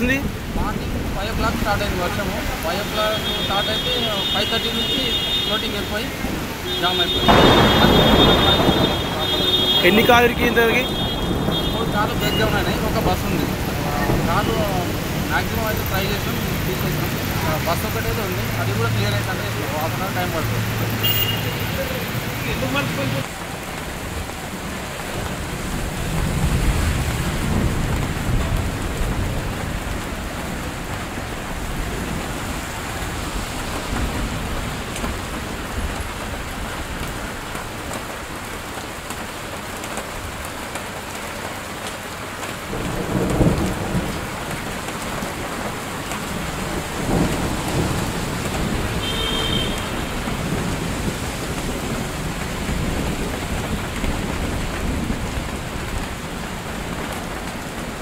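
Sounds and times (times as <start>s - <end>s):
heavy rain on a street: 0.0s - 58.0s.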